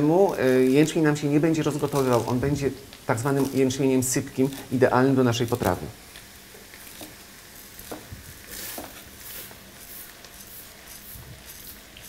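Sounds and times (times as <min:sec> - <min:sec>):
fat sizzling in a frying pan: 0:00.0 - 0:12.0.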